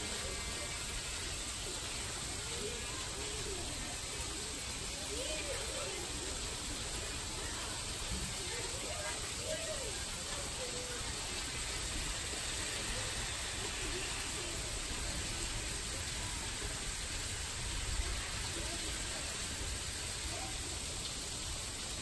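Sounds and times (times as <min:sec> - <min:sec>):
distant voices: 0:00.0 - 0:21.8.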